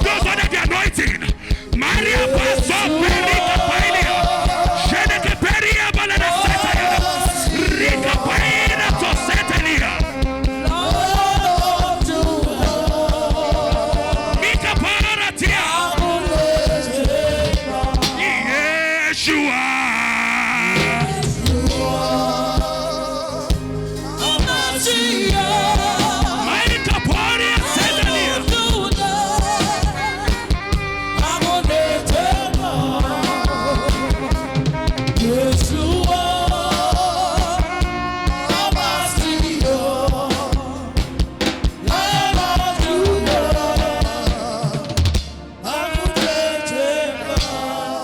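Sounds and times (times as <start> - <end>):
gospel band music: 0.0 - 48.0
singing: 0.0 - 48.0.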